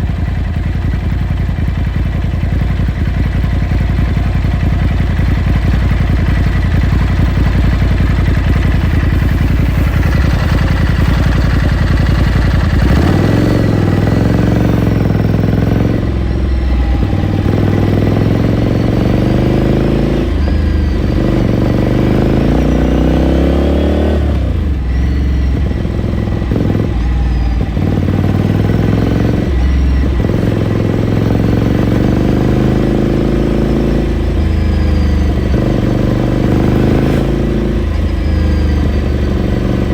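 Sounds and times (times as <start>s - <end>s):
motorcycle engine pulling away: 0.0s - 39.9s.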